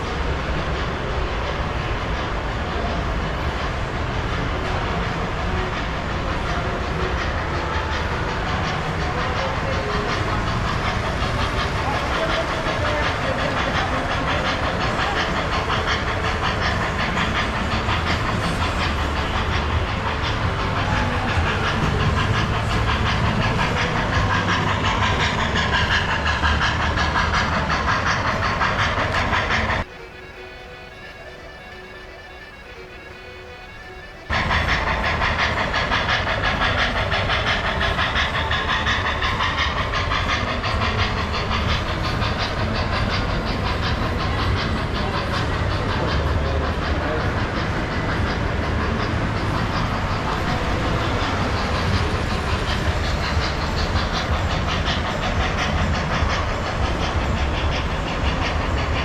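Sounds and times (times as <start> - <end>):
model train wheels clattering: 4.6 - 29.9, 34.3 - 59.0.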